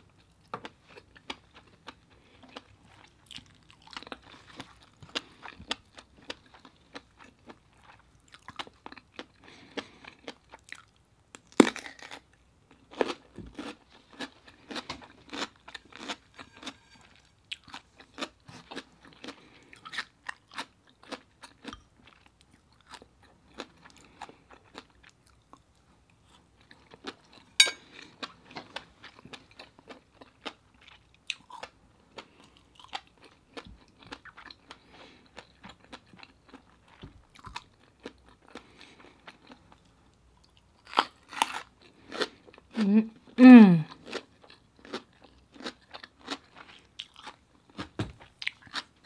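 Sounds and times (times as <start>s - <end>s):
person chewing and crunching food: 0.0s - 49.0s.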